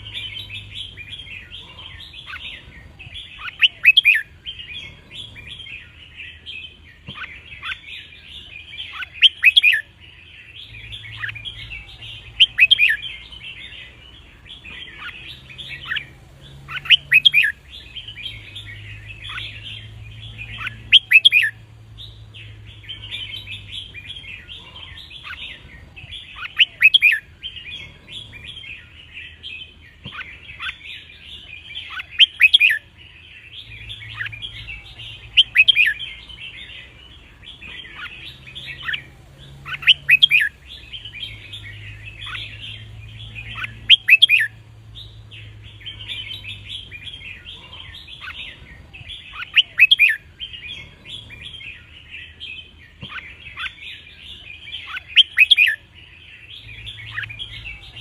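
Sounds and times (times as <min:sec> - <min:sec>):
birds singing and chattering: 0:00.0 - 0:58.0.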